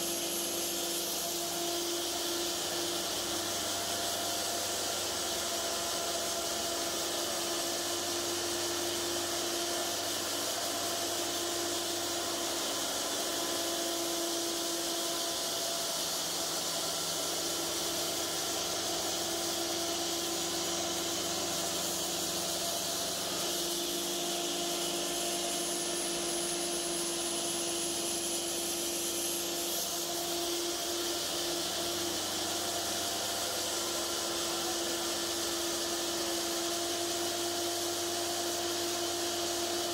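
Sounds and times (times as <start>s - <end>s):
bandsaw mill engine running: 0.0s - 39.9s.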